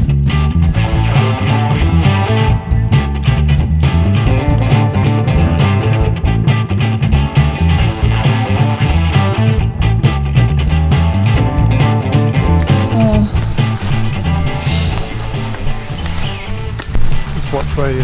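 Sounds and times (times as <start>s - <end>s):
rock music with guitar and bass: 0.0s - 18.0s.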